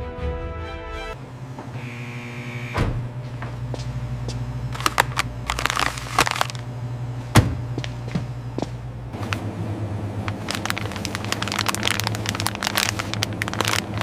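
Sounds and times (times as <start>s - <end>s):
factory machinery humming: 1.1s - 14.0s.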